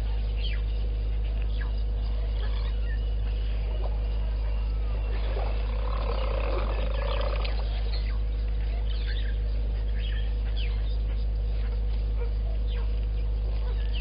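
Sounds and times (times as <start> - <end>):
low animal call: 0.0 - 14.0
steady low hum: 0.0 - 14.0.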